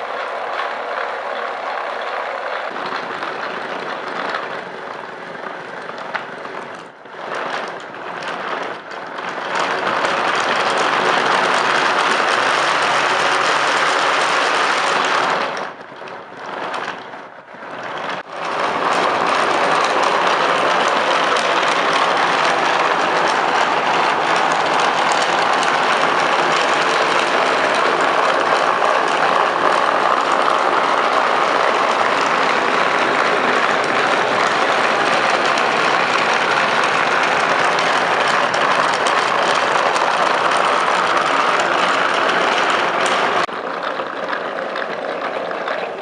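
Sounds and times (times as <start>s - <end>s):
loud mechanical running noise: 0.0s - 46.0s.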